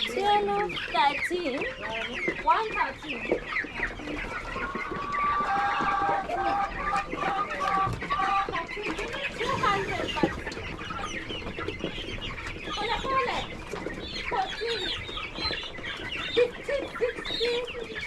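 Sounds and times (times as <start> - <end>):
chickens clucking and calling: 0.0 - 18.0.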